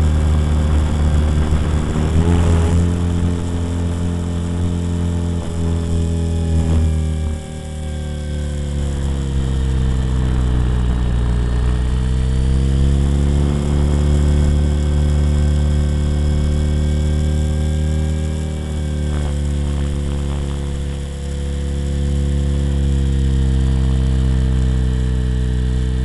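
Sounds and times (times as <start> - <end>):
high-pitched motor whine: 0.0 - 26.0
rc helicopter rotor buzz: 0.0 - 26.0.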